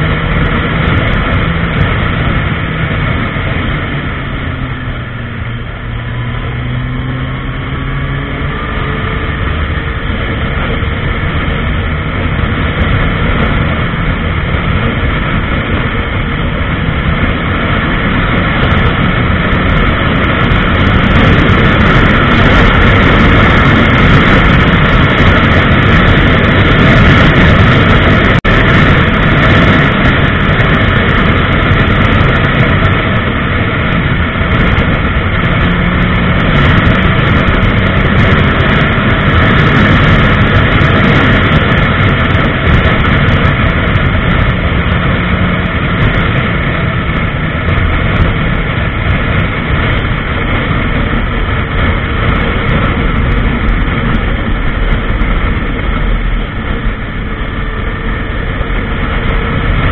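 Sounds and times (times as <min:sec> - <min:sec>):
motorcycle engine accelerating: 0:00.0 - 0:59.9
wind noise on microphone: 0:00.0 - 0:59.9.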